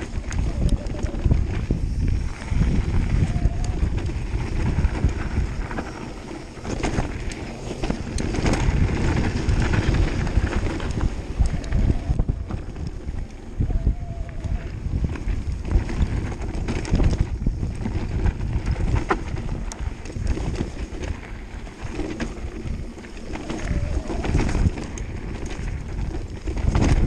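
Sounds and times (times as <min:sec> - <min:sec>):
bike rattling and knocking: 0:00.0 - 0:27.0
tyres crunching on loose dirt: 0:00.0 - 0:27.0
wind buffeting microphone: 0:00.0 - 0:27.0.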